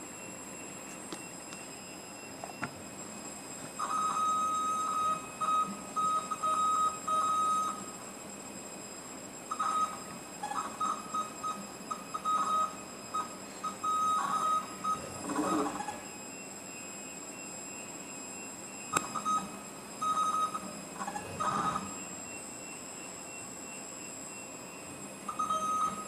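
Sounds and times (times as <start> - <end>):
cnc machine high-pitched tone: 0.0 - 26.0.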